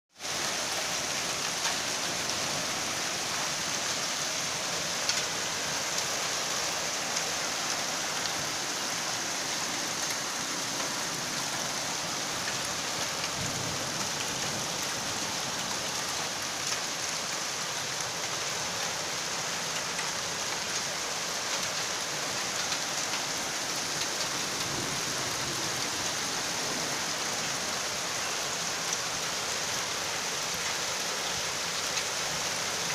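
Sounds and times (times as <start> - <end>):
heavy rain pouring: 0.1 - 32.9
raindrops ticking on surfaces: 0.1 - 32.9.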